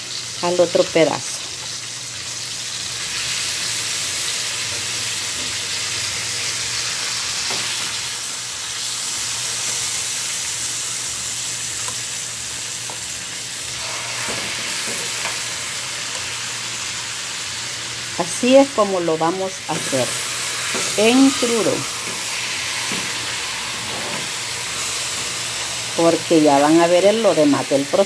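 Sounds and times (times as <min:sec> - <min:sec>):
chicken sizzling in frying pan: 0:00.0 - 0:28.0.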